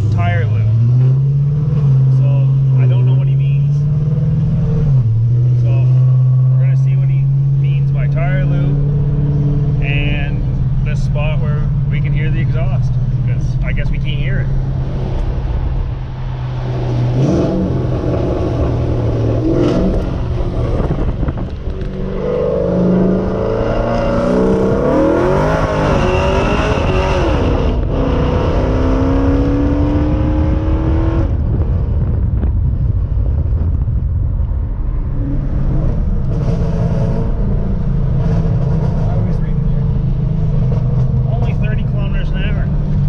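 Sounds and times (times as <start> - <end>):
car engine revving: 0.0 - 43.0
road noise inside car: 0.0 - 43.0.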